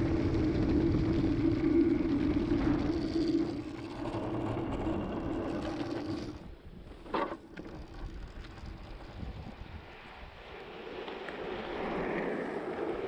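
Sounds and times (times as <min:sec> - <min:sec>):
wind rumble: 0:00.0 - 0:06.9, 0:07.7 - 0:13.0
board wheels rolling on asphalt: 0:00.0 - 0:13.0.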